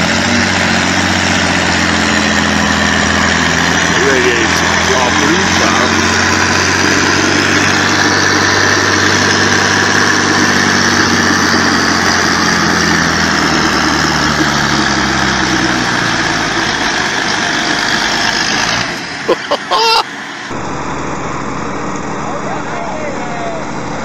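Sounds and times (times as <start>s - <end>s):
tractor engines under load: 0.0s - 24.0s.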